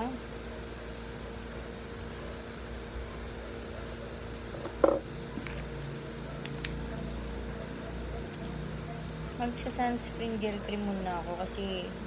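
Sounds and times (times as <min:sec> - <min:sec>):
electrical room hum: 0:00.0 - 0:12.0.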